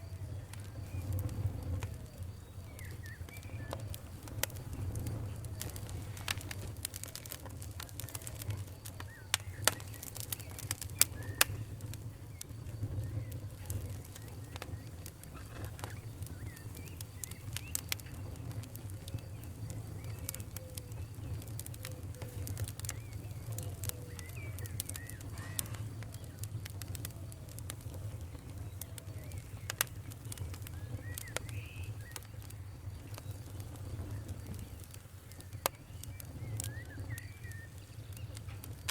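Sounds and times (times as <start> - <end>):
faint whistling chirps: 0.0 - 38.9
wood fire crackling: 0.0 - 38.9.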